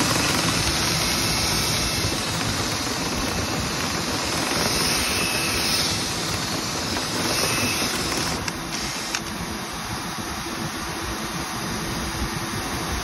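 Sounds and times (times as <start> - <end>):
vent cleaning equipment roaring: 0.0 - 13.0.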